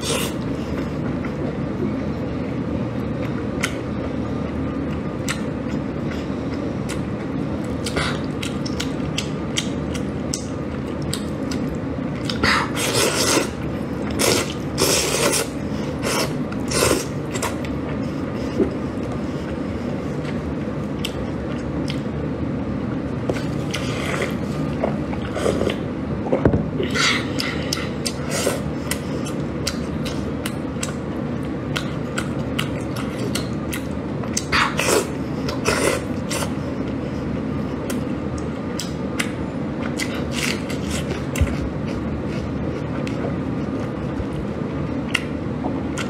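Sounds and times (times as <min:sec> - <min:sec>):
person chewing: 0:00.0 - 0:01.9, 0:03.0 - 0:22.1, 0:22.8 - 0:25.9, 0:26.8 - 0:46.0
steady low hum: 0:00.0 - 0:46.0.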